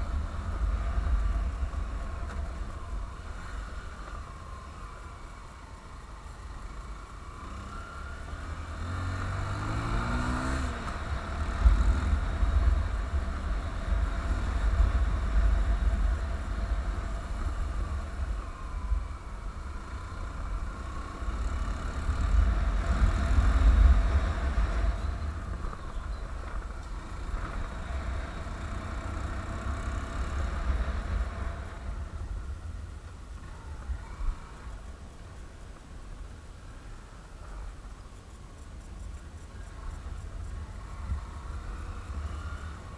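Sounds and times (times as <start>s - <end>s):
motorcycle engine accelerating: 0.0s - 35.2s, 39.8s - 42.9s.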